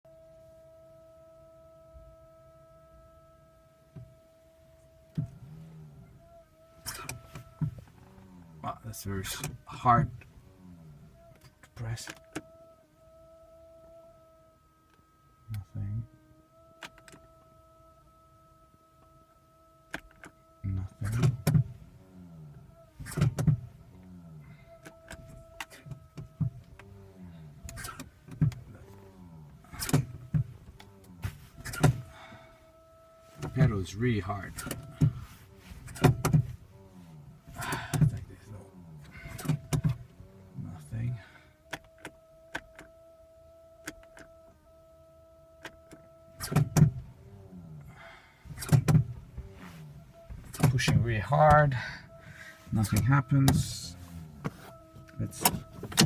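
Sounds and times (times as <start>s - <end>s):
car electrical whine: 0.0s - 56.0s.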